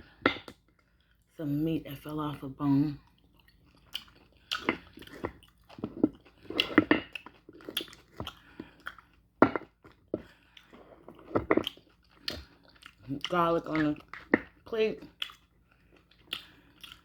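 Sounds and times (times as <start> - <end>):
wet chewing and lip-smacking: 3.0 - 17.0.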